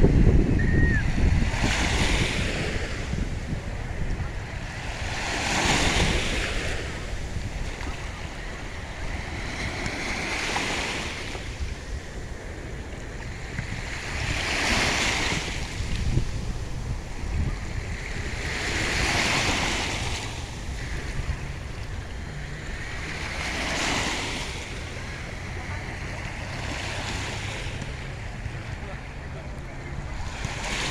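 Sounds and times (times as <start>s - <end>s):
waves breaking on shore: 0.0s - 30.9s
wind on microphone: 0.0s - 30.9s.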